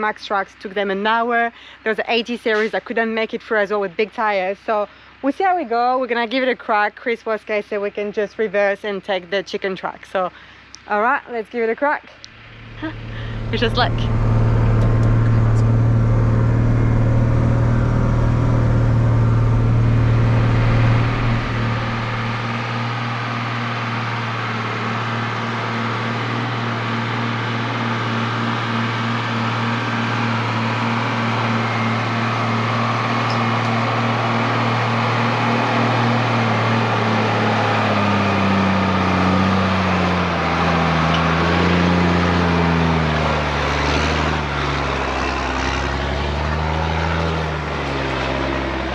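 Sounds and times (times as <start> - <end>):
diesel truck engine under load: 0.0 - 48.9.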